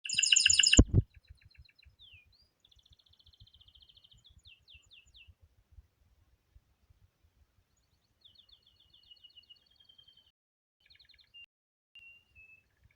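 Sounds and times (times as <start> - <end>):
songbird singing: 0.0 - 5.4, 7.7 - 12.9.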